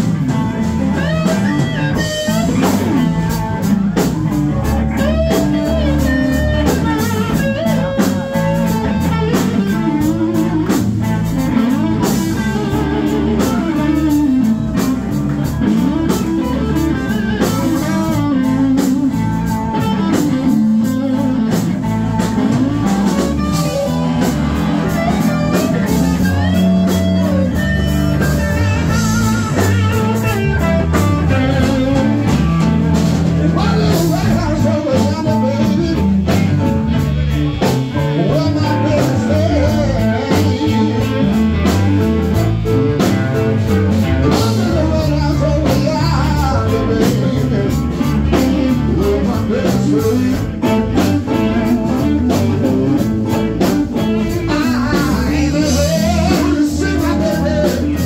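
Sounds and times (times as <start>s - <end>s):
bass guitar: 0.0s - 58.0s
drums: 0.0s - 58.0s
electric guitar lead with bends: 0.0s - 58.0s.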